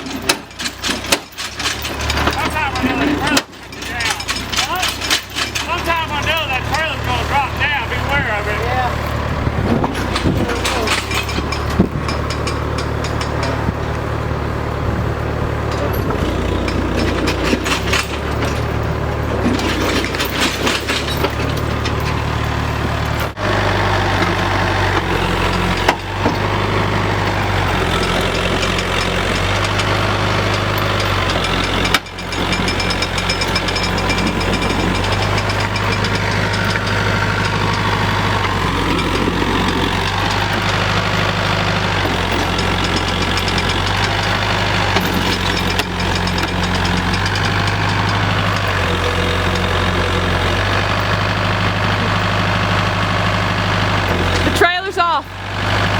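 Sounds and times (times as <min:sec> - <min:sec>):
tractor engine droning: 0:00.0 - 0:55.9.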